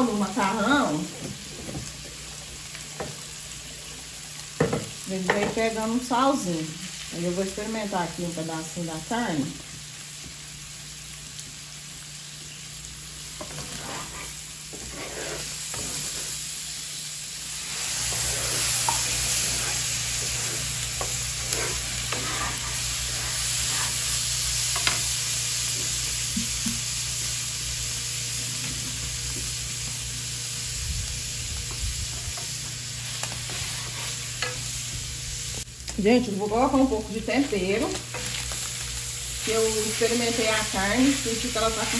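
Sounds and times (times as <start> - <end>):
meat sizzling on griddle: 0.0 - 41.9.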